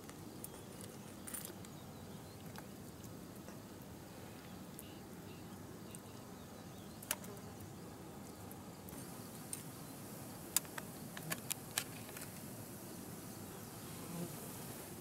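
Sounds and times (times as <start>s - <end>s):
faint high hiss: 0.0s - 15.0s.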